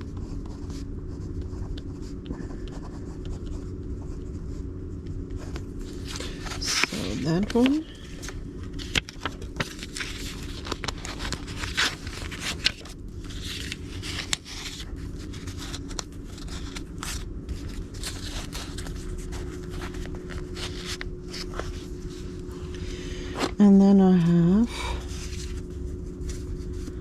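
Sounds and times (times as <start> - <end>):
faint steady hum: 0.0 - 27.0
paper cards rustling and scraping: 0.0 - 27.0.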